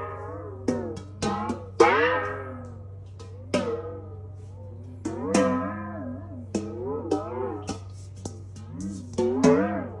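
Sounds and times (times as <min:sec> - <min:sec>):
darbuka strokes: 0:00.0 - 0:10.0.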